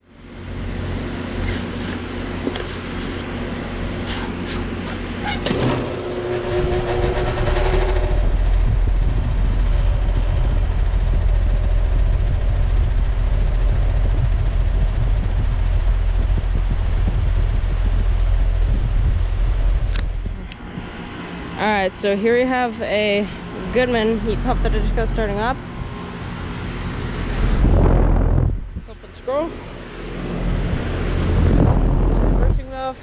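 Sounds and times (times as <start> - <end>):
heat pump humming: 0.0 - 33.0.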